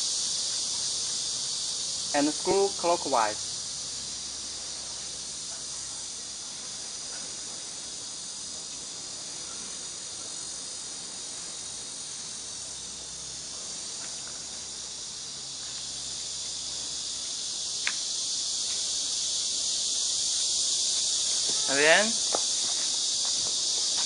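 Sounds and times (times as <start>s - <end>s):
steady high-pitched hiss: 0.0s - 24.0s.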